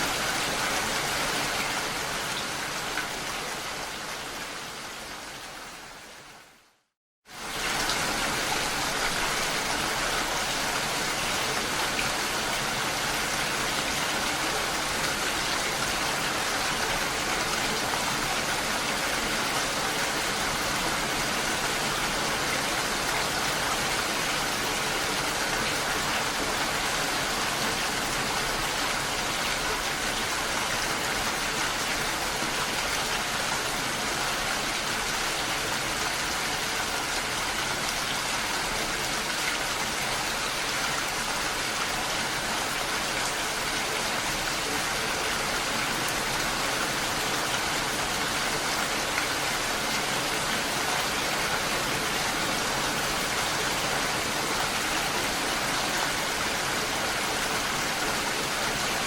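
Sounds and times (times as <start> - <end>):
steady rainfall hiss: 7.3 - 59.0.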